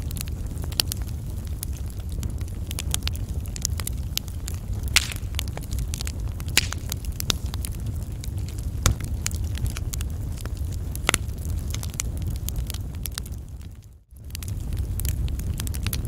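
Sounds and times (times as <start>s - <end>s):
loud fire pops: 0.0s - 16.0s
low rumble of flames: 0.0s - 16.0s
wood fire crackling: 0.0s - 16.0s.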